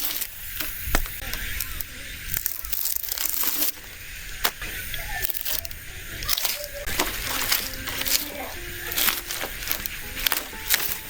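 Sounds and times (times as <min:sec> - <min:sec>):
bark tearing off log: 0:00.0 - 0:11.0.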